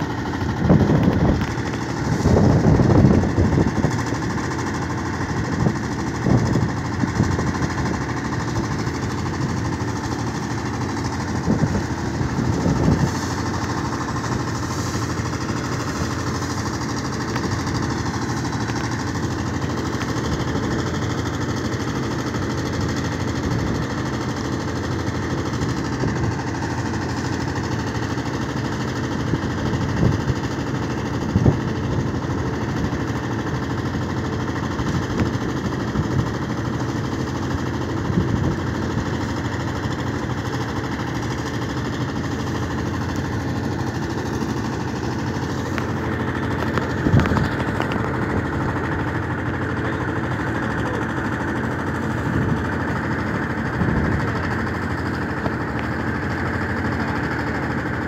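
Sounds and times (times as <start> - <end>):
crane knocks and clanks: 0.0 - 58.0
diesel engine running: 0.0 - 58.0.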